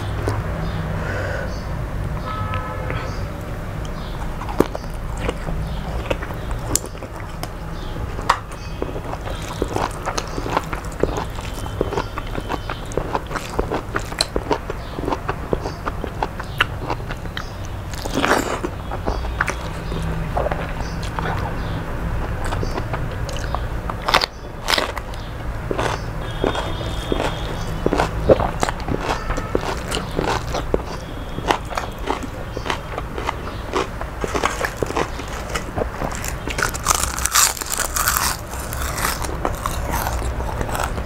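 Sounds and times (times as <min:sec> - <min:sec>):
chewing and biting: 0:03.8 - 0:41.0.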